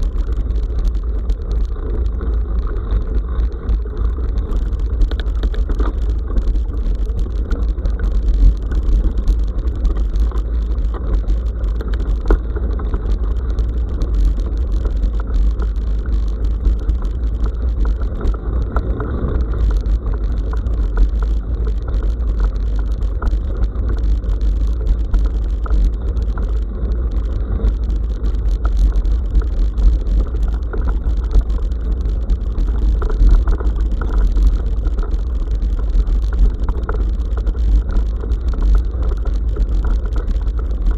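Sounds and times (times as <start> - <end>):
bike tyres crackling and rattling: 0.0 - 40.9
low rumble of road vibration: 0.0 - 40.9.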